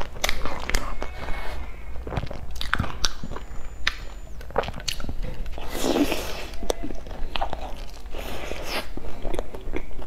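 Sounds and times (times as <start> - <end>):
mouth clicks and crunches: 0.0 - 10.0
person chewing cake: 0.0 - 10.0.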